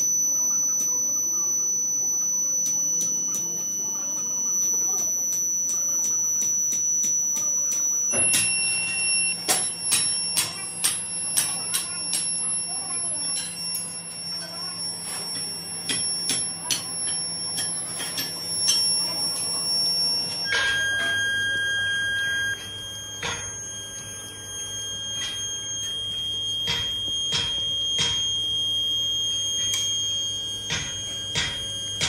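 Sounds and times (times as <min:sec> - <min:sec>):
machinery high-pitched whine: 0:00.0 - 0:32.0.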